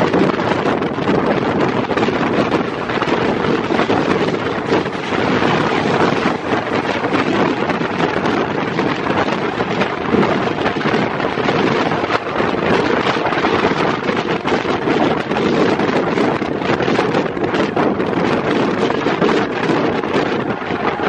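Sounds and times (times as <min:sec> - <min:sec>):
train rushing at speed: 0:00.0 - 0:21.0
wind buffeting microphone: 0:00.0 - 0:21.0.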